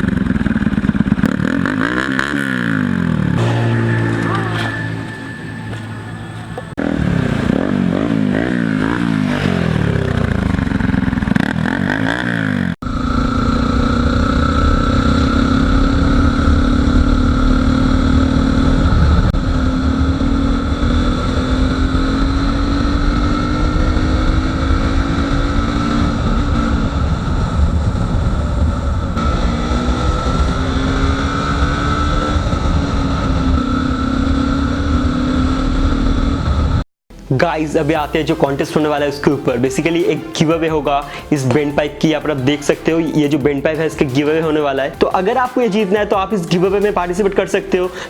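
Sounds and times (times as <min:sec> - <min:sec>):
motorcycle engine revving: 0:00.0 - 0:48.0
motorcycle engine shifting up: 0:00.0 - 0:48.0.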